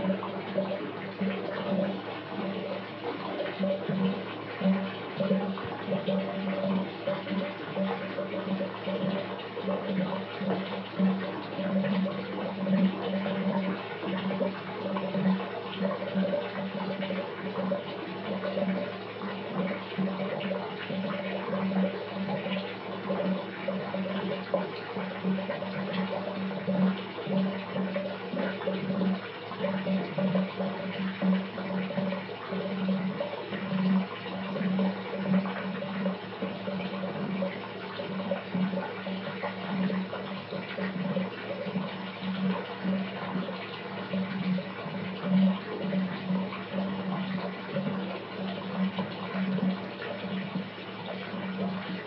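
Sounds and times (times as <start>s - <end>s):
water pouring into bathtub: 0.0s - 52.0s.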